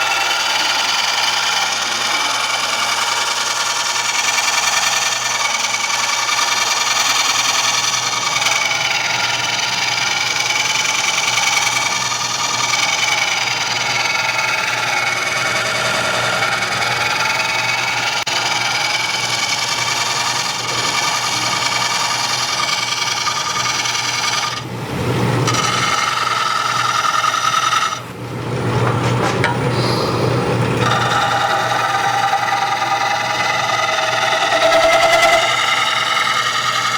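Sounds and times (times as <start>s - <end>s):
lathe motor hum: 0.0s - 36.9s
turning tool scraping wood: 0.0s - 36.9s.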